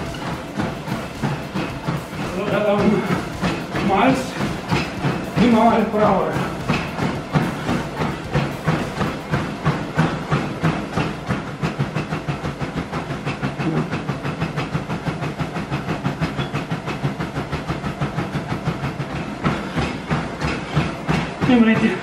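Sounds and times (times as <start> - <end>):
running footfalls on treadmill: 0.0 - 22.0
treadmill motor hum: 0.0 - 22.0.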